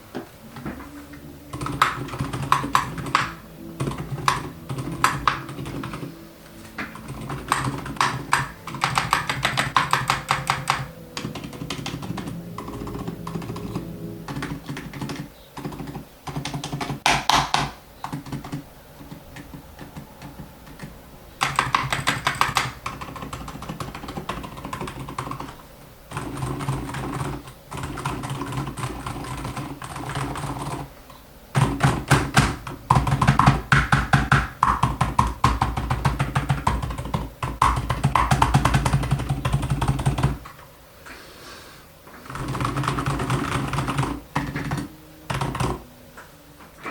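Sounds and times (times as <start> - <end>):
typing on mechanical keyboard: 1.5 - 6.1, 6.7 - 30.9, 31.6 - 40.4, 42.2 - 45.8.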